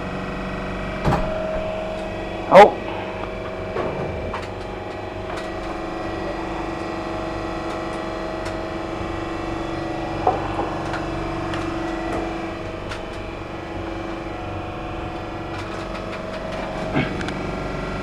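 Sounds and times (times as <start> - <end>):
kitchen machinery humming: 0.0 - 18.0.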